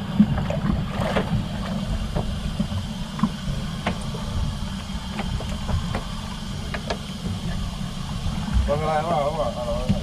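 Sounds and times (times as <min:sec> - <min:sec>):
boat motor rumbling: 0:00.0 - 0:10.0.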